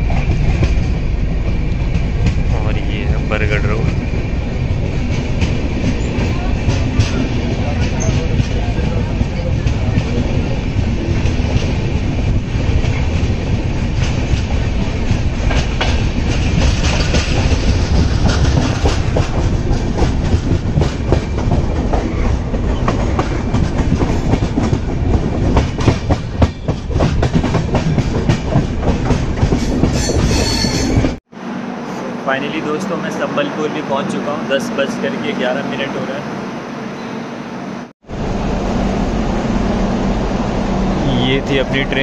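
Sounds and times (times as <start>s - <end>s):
train coaches rumbling: 0.0s - 42.0s.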